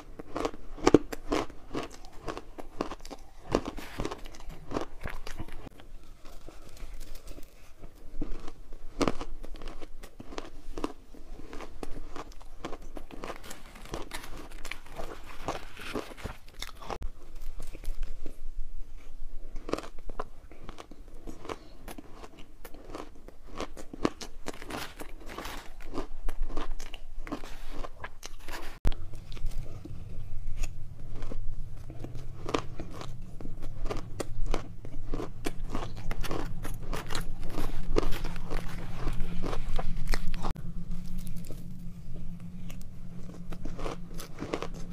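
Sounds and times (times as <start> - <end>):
crunching and chewing ice: 0.0 - 18.4, 19.0 - 44.9.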